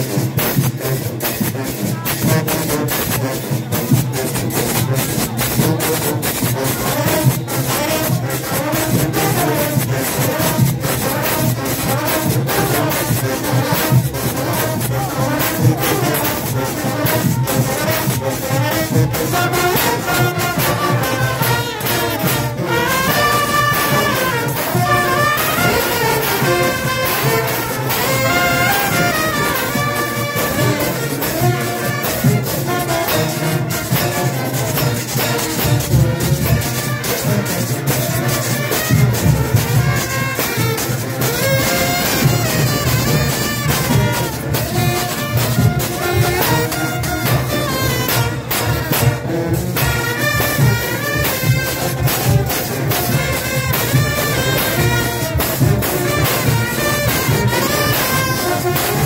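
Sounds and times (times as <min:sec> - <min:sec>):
brass horn section melody: 0:00.0 - 0:59.0
drums and cowbells beat: 0:00.0 - 0:59.0.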